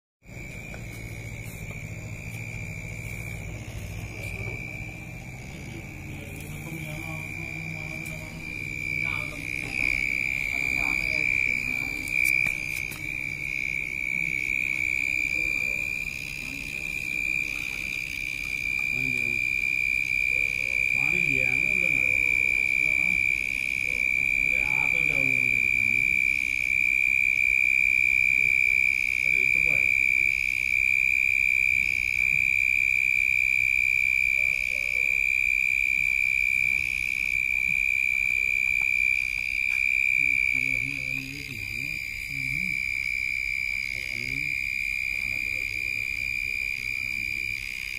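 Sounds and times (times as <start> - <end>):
insects trilling: 0.2 - 47.9.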